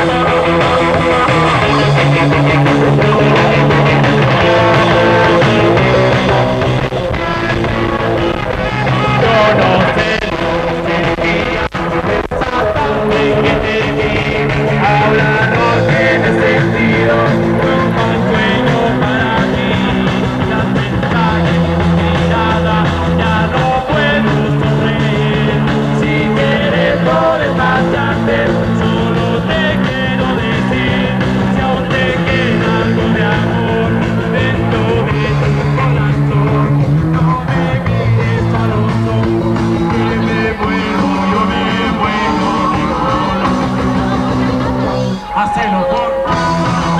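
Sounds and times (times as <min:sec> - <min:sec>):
bass guitar: 0:00.0 - 0:46.9
drums with steady beat: 0:00.0 - 0:46.9
electric guitars: 0:00.0 - 0:46.9.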